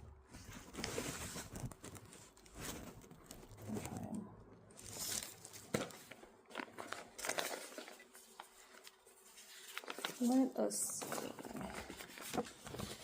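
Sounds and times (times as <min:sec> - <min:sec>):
fabric rustling: 0:00.2 - 0:04.1, 0:04.7 - 0:13.0.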